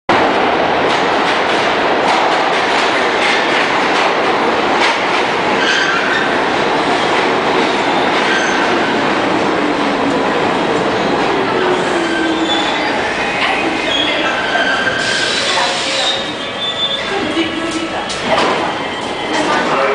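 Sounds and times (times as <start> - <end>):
subway train rumbling: 0.1 - 19.9.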